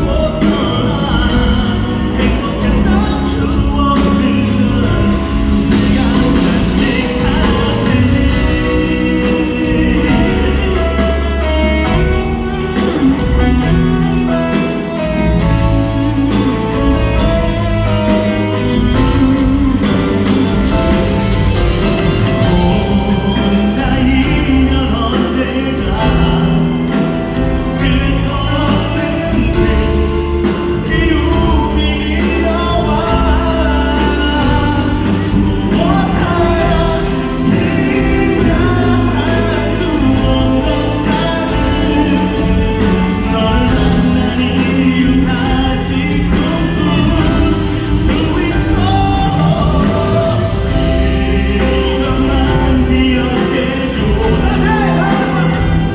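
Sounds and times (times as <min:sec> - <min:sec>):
live band playing: 0:00.0 - 0:55.9
person singing: 0:00.0 - 0:55.9.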